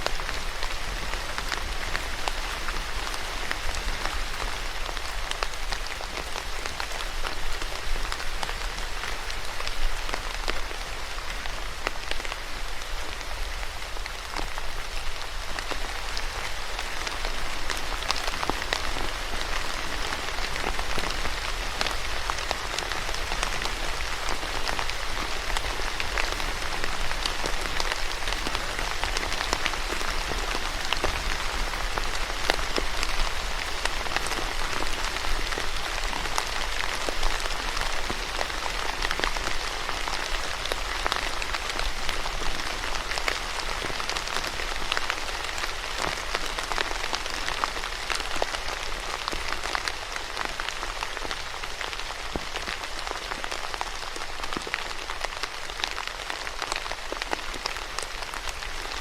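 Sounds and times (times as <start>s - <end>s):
rain on a hard surface: 0.0s - 59.0s.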